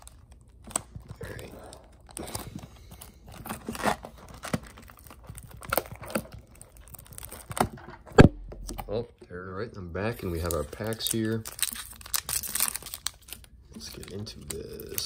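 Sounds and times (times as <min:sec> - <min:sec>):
plastic shrink wrap crinkling: 0:00.0 - 0:08.0, 0:10.0 - 0:15.0.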